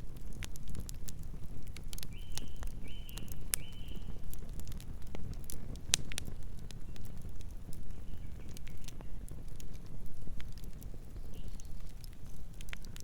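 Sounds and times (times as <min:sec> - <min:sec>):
campfire crackling and popping: 0:00.0 - 0:13.0
flames rumbling: 0:00.0 - 0:13.0.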